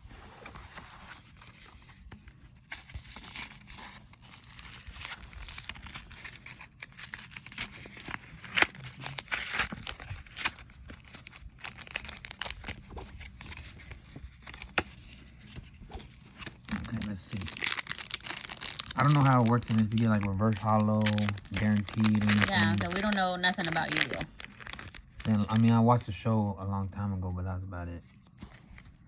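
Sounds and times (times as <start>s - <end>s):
wrapper crinkling and tearing: 2.6s - 26.1s.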